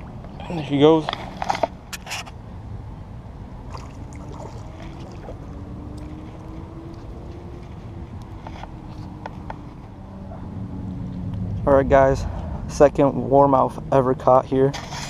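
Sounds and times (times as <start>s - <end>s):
low outdoor rumble: 0.0s - 14.8s.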